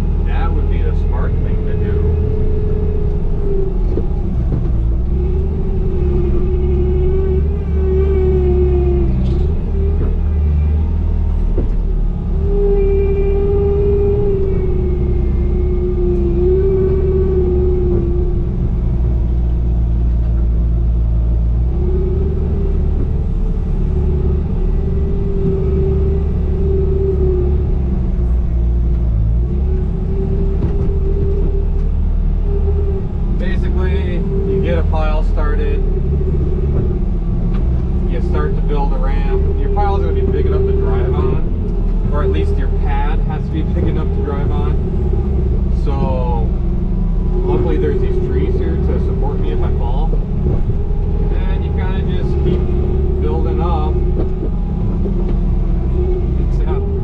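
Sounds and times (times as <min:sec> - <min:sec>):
excavator engine running: 0:00.0 - 0:57.0
wavering whine: 0:00.0 - 0:57.0.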